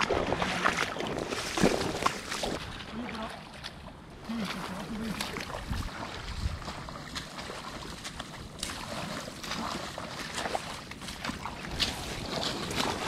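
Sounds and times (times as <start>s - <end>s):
wind rumbling on microphone: 0.0s - 3.0s, 5.2s - 13.0s
waders splashing through water: 0.0s - 13.0s.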